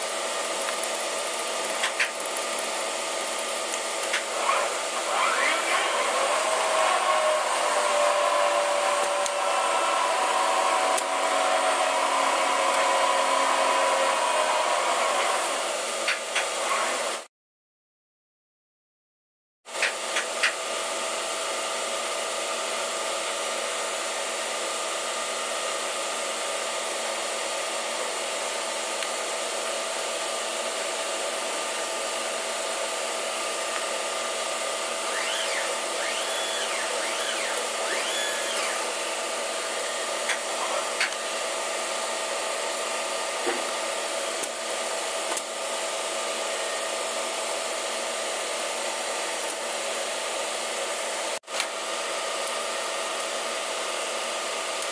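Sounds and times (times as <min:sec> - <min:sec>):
ventilation fans droning: 0:00.0 - 0:16.7, 0:19.7 - 0:54.9.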